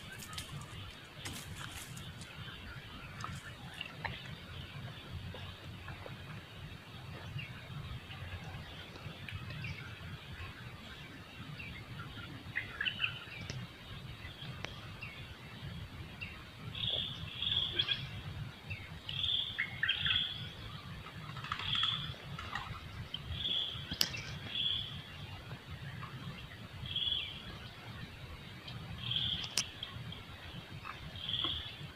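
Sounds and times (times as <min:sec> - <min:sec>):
birds chirping: 0:00.0 - 0:31.9
steady low rumble: 0:00.0 - 0:31.9.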